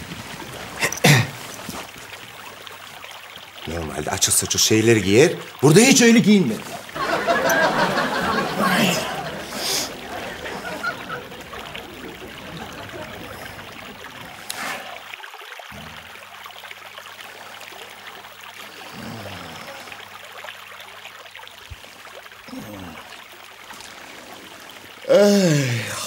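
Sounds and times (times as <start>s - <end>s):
stream water trickling: 0.0s - 26.0s.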